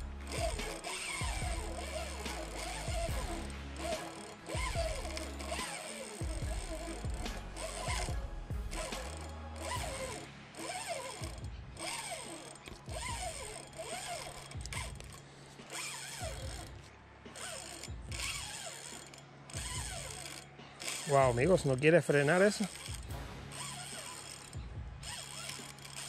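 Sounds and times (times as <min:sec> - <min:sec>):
fishing reel clicking and whirring: 0:00.0 - 0:26.0
reel drag ratcheting: 0:00.0 - 0:26.0.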